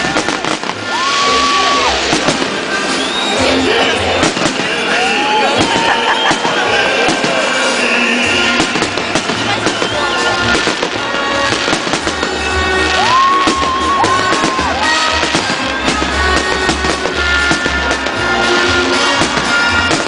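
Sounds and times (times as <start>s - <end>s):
fireworks bangs and crackle: 0.0s - 20.0s
music with held notes: 0.0s - 20.0s.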